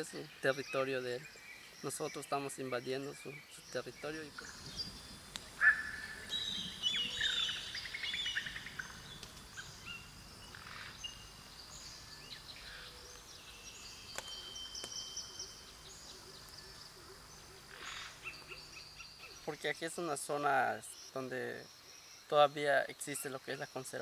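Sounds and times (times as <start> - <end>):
birds calling and chirping: 0.0 - 24.0.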